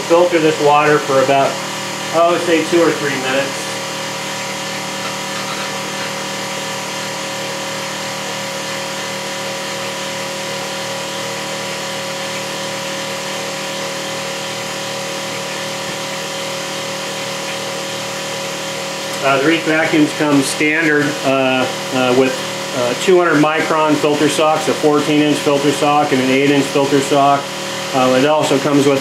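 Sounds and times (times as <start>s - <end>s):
electric water pump humming: 0.0s - 29.0s.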